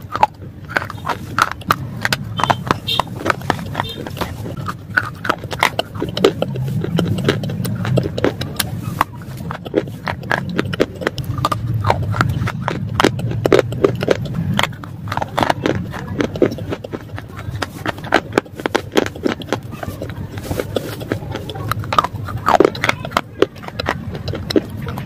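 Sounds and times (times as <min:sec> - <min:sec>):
person crunching and chewing: 0:00.0 - 0:25.0.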